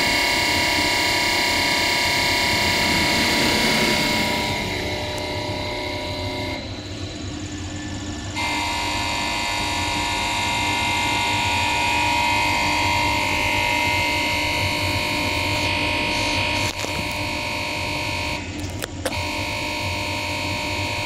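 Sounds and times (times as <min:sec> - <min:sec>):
high whine: 0:00.0 - 0:21.0
test bench pump hum: 0:00.0 - 0:21.0.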